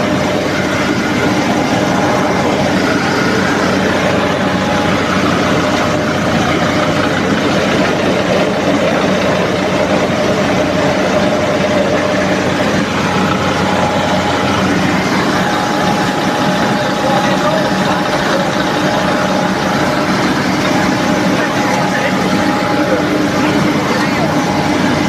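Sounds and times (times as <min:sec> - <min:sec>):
rice milling machine running: 0:00.0 - 0:25.0.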